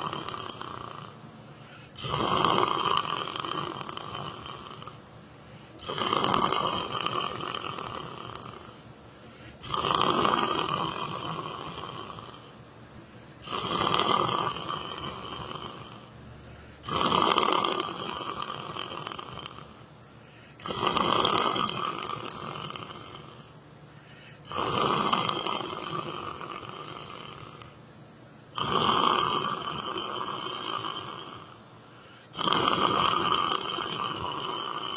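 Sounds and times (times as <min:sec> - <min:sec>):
person snoring: 0:00.0 - 0:05.0, 0:05.6 - 0:12.6, 0:13.4 - 0:27.8, 0:28.5 - 0:34.9.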